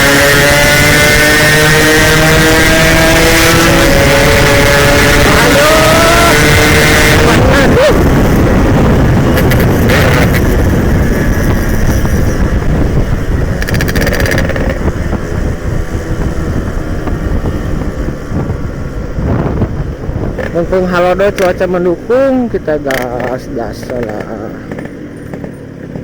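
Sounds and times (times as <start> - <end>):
two-stroke motorcycle engine: 0.0 - 26.0
wind buffeting microphone: 0.0 - 26.0.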